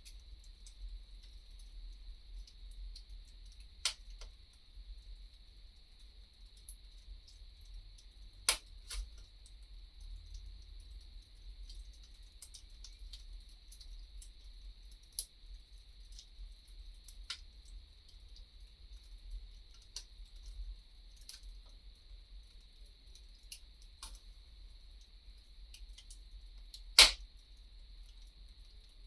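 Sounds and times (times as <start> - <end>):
faint steady hiss: 0.0 - 29.0
wood fire crackling and popping: 0.0 - 29.0.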